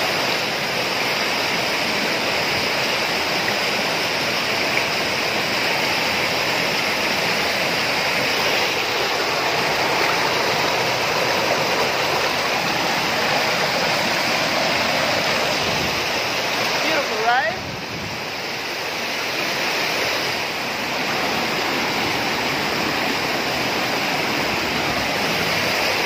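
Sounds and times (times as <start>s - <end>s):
stream rushing over rock: 0.0s - 26.0s.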